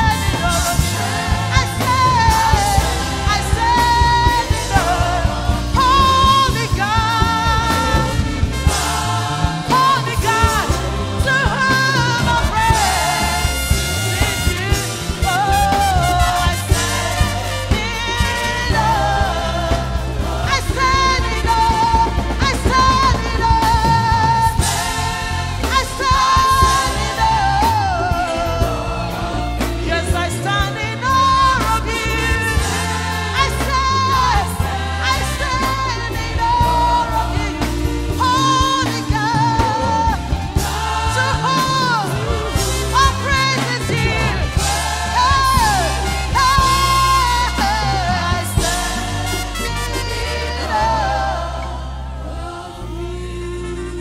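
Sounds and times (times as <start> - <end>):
bass line: 0.0 - 54.0
choir singing: 0.0 - 54.0
drums: 0.0 - 54.0
keyboards: 0.0 - 54.0
woman lead singer: 0.0 - 54.0.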